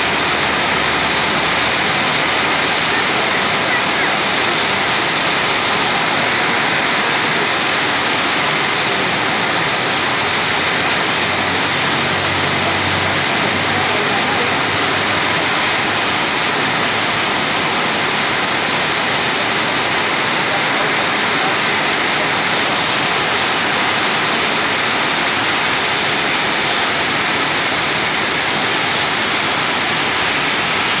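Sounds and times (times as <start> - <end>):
heavy rain on a wet road: 0.0 - 31.0.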